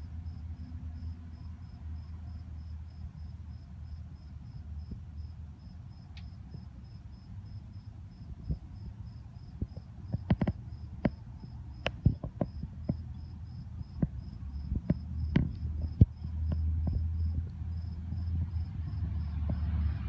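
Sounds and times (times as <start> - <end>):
cricket chirping: 0.0 - 20.0.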